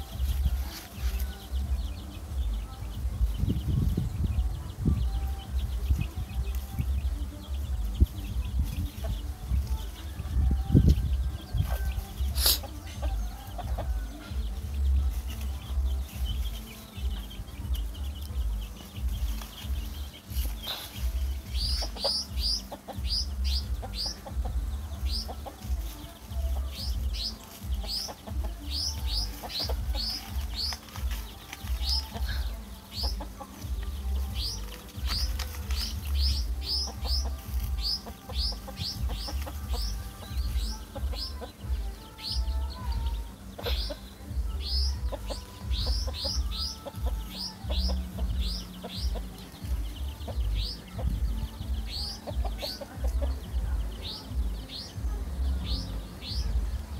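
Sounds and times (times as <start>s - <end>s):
chicks peeping: 0.0s - 56.9s
hen clucking: 0.0s - 56.9s
low pulsing rumble: 0.0s - 56.9s.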